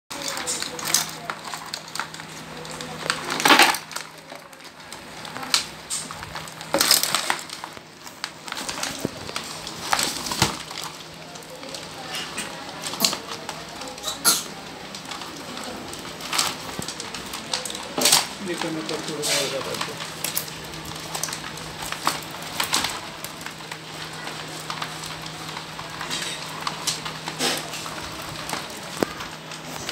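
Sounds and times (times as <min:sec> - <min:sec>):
crabs scrabbling in plastic tub: 0:00.1 - 0:29.9.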